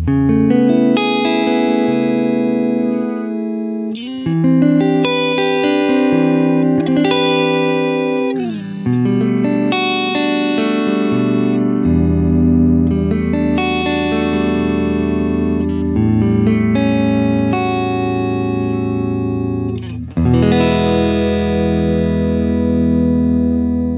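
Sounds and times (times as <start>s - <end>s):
clean electric guitar chords: 0.0s - 23.9s.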